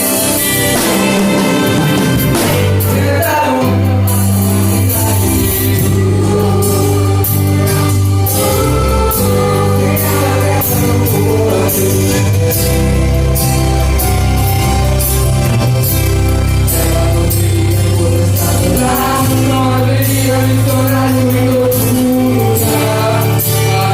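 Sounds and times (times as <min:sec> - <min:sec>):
group singing gospel: 0:00.0 - 0:15.2, 0:15.9 - 0:23.9
steady drum beat: 0:00.0 - 0:23.9
sustained bass notes: 0:00.0 - 0:23.9.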